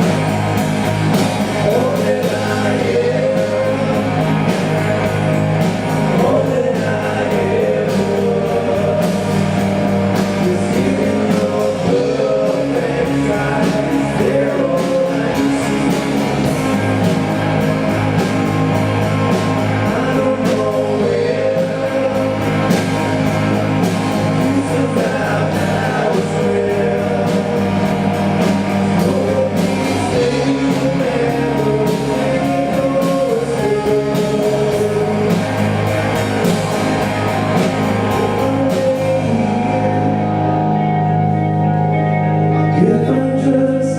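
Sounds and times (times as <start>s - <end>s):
drum hits: 0.0s - 39.4s
bass line: 0.0s - 43.9s
guitar: 0.0s - 43.9s
person singing: 1.1s - 17.2s, 19.2s - 43.9s.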